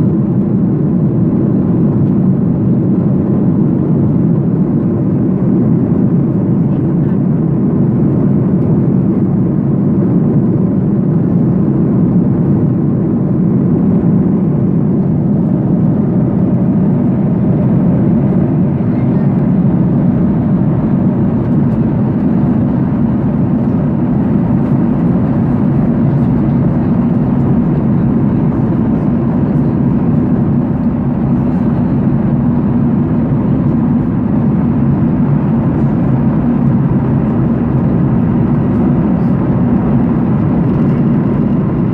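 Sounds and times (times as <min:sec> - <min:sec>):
airliner cabin noise: 0:00.0 - 0:41.9.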